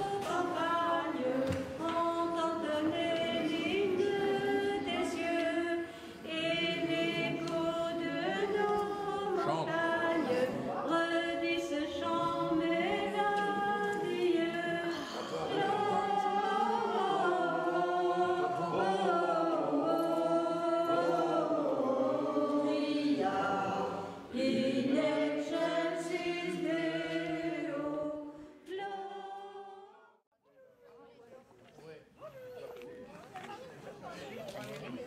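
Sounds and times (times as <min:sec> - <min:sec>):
choir singing long notes: 0:00.0 - 0:30.1.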